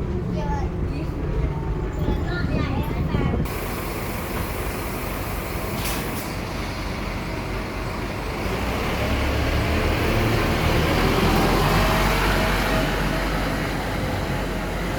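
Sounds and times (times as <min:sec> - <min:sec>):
bus diesel engine running: 0:00.0 - 0:14.9.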